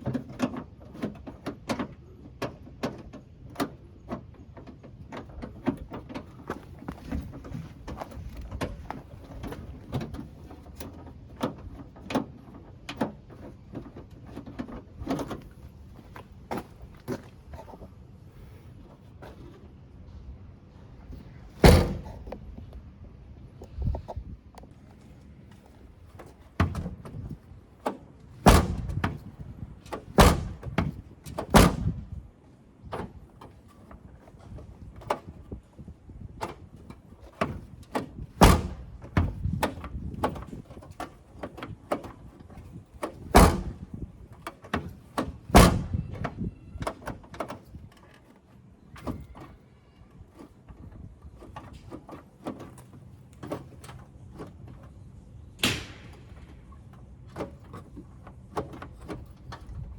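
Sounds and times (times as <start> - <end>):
car door and latch clunking: 0.0 - 19.7, 21.1 - 22.8, 23.6 - 35.7, 36.3 - 55.0, 55.6 - 59.9.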